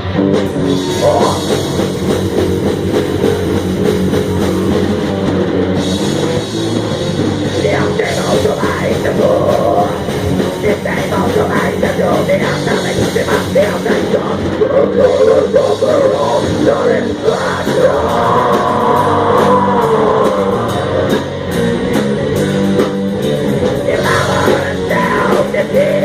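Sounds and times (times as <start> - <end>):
distorted electric guitars: 0.0 - 26.0
drum kit: 0.0 - 26.0.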